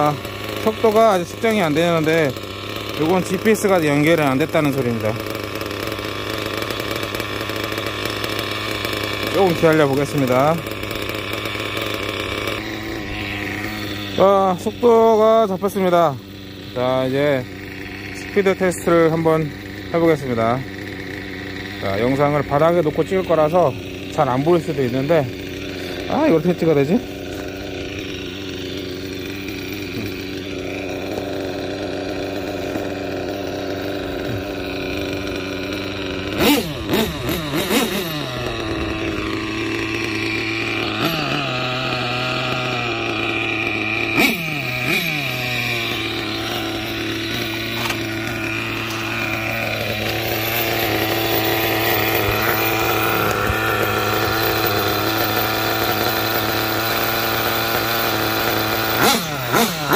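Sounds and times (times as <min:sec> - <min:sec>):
small nitro engine buzzing idle: 0:00.0 - 0:59.9.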